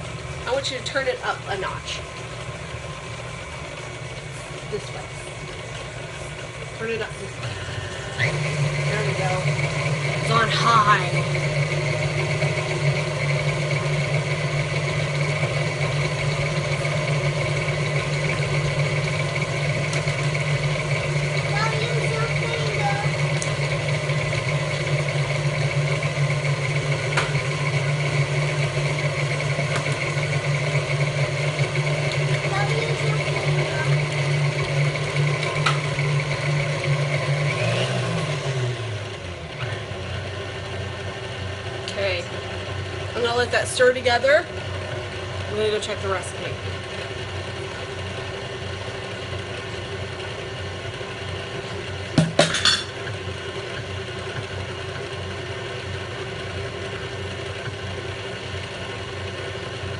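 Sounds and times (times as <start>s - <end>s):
stand mixer running: 0.0s - 59.9s.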